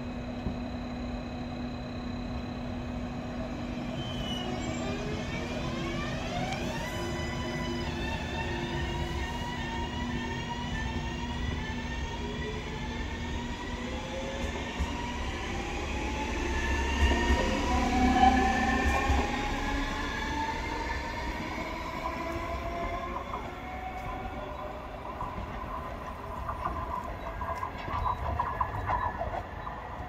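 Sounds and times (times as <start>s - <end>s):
electric train motor whine: 0.0s - 27.7s
wheels rumbling on rails: 0.0s - 30.0s.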